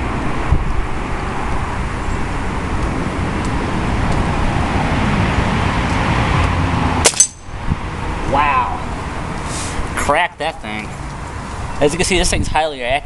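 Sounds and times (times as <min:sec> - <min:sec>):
steady rumbling background noise: 0:00.0 - 0:13.0.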